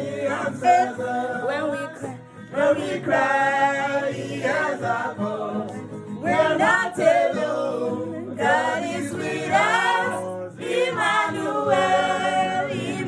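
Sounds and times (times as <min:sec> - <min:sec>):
choir singing a cappella: 0:00.0 - 0:13.0.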